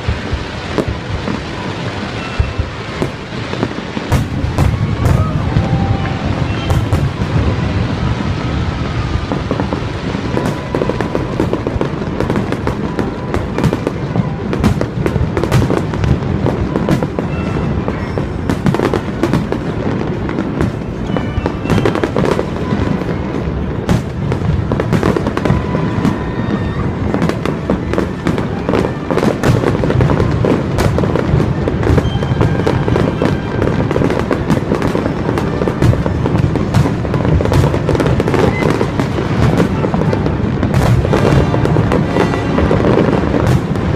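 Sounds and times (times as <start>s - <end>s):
fireworks bangs and crackles: 0.0s - 43.9s
fireworks booming: 0.0s - 43.9s.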